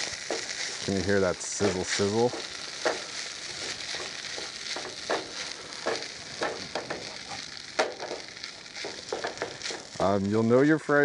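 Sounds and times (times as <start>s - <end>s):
spatula scraping and knocking pan: 0.0s - 10.0s
rice sizzling in a pan: 0.0s - 11.0s.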